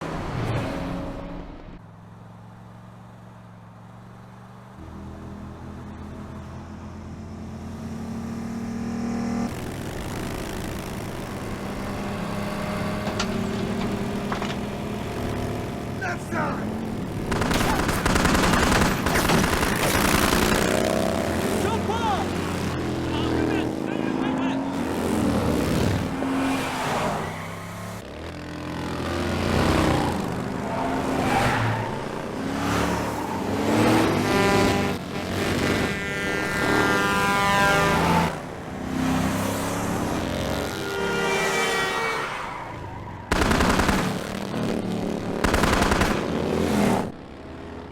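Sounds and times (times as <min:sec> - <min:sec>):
motorcycle engines running: 0:01.6 - 0:47.9.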